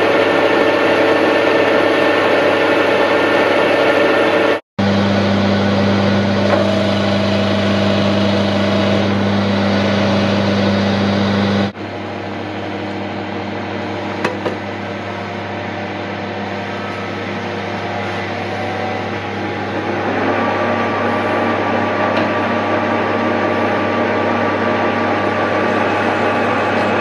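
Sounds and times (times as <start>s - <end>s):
metal lathe humming: 0.0s - 27.0s.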